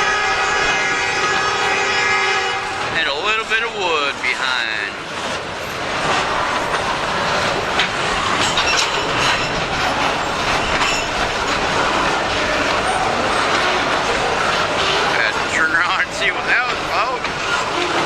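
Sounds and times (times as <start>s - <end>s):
train wheels rumbling on rails: 0.0s - 18.0s
wheels clacking on rail joints: 0.0s - 18.0s.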